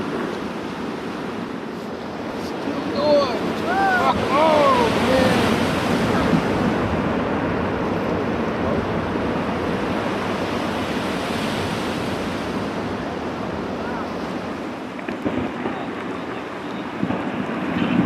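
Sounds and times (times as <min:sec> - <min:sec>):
water washing and churning: 0:00.0 - 0:18.0
wind buffeting microphone: 0:00.0 - 0:18.0.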